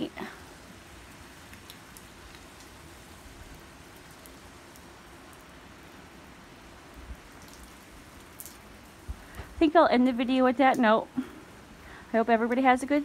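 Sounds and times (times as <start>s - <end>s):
waterfall splashing into pond: 0.0s - 12.0s.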